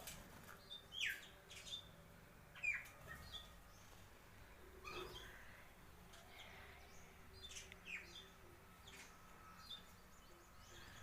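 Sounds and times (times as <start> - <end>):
sparrows chirping faintly: 0.0 - 11.0.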